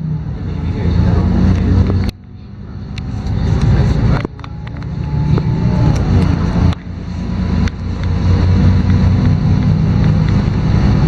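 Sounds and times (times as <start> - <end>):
bus diesel engine accelerating: 0.0 - 11.0.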